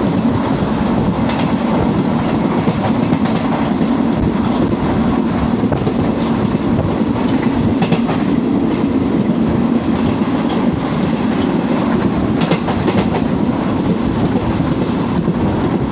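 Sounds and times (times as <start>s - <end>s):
sharp track clicks: 0.0s - 15.5s
train wheels rumbling on track: 0.0s - 15.9s.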